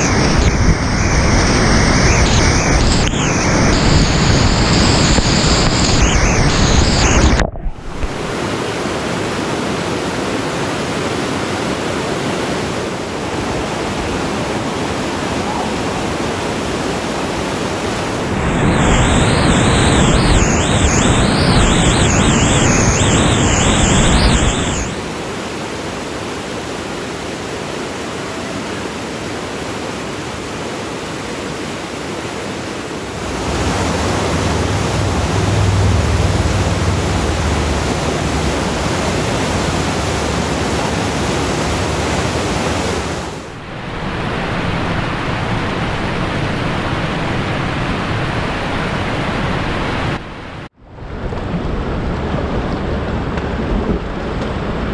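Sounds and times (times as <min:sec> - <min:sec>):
wind on microphone: 0:00.0 - 0:25.4, 0:29.8 - 0:54.9
whitewater rushing: 0:00.0 - 0:50.7.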